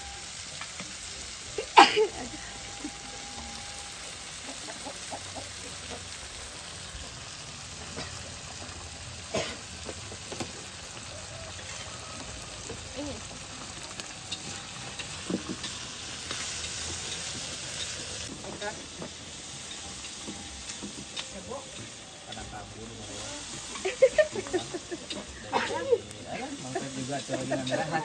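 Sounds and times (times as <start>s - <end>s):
food sizzling in a wok: 0.0s - 28.0s.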